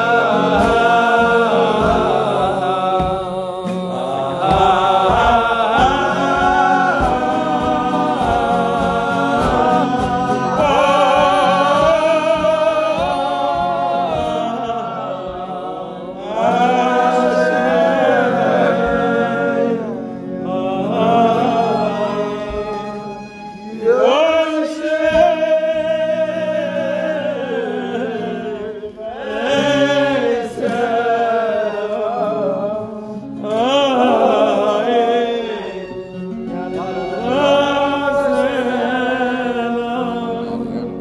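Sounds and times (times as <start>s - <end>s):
voices singing together: 0.0s - 41.0s.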